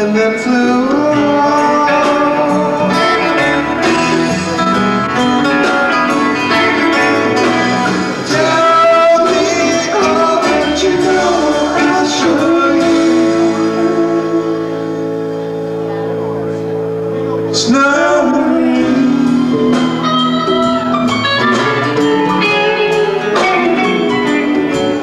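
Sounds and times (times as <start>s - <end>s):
guitars strummed and picked: 0.0s - 25.0s
live rock band playing: 0.0s - 25.0s
person singing: 0.0s - 25.0s.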